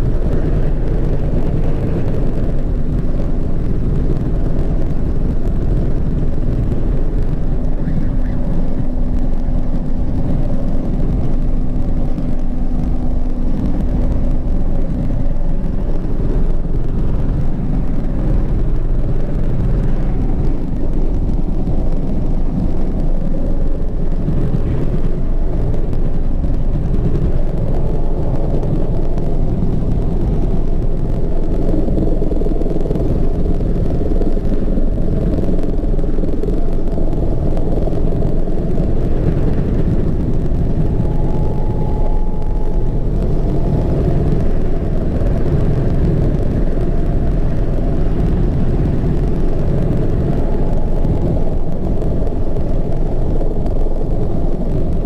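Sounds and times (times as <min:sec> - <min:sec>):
helicopter engine and rotor noise: 0:00.0 - 0:55.0.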